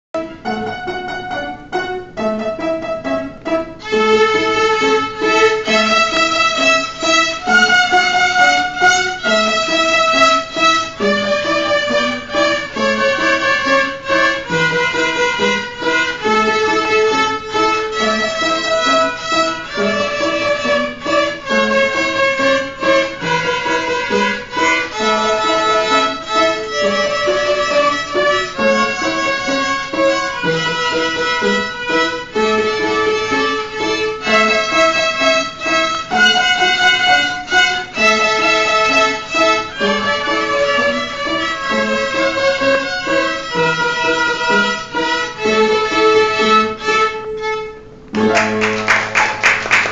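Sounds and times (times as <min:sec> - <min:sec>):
piano accompaniment: 0:00.1 - 0:49.9
violins playing a melody: 0:00.2 - 0:49.9.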